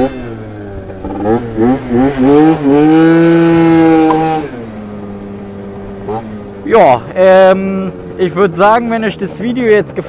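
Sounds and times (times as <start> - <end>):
scooter engine revving: 0.0 - 10.0.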